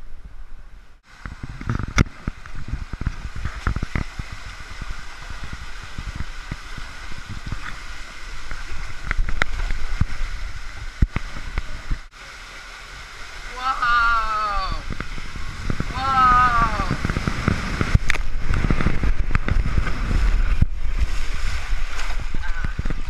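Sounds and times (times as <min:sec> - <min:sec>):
water rushing down slide: 0:01.1 - 0:23.0.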